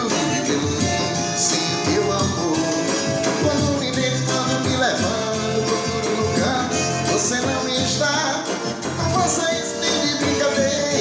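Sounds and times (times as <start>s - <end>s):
band playing dance beat: 0.0s - 11.0s
person singing: 0.0s - 11.0s.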